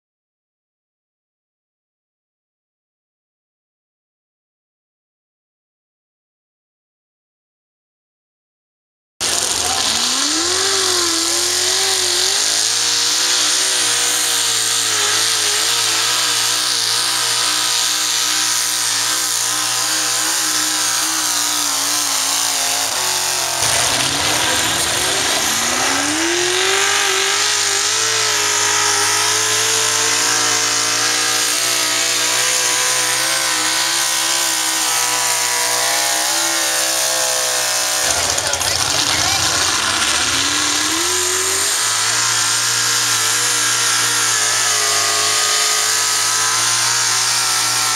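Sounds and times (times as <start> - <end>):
tractor engine revving: 9.2 - 47.9.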